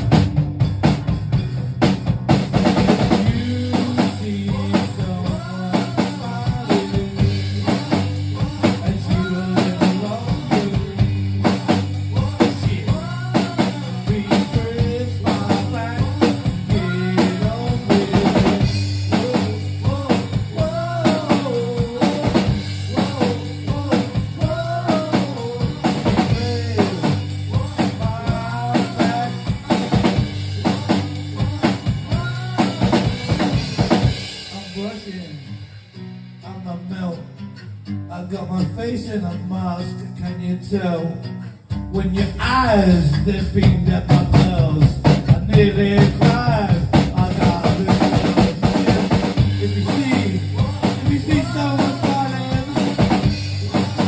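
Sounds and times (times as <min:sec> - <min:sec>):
drum kit beat: 0:00.0 - 0:36.6, 0:42.0 - 0:54.0
low bass notes: 0:00.0 - 0:36.8, 0:41.8 - 0:54.0
man singing: 0:02.9 - 0:35.8, 0:36.4 - 0:54.0.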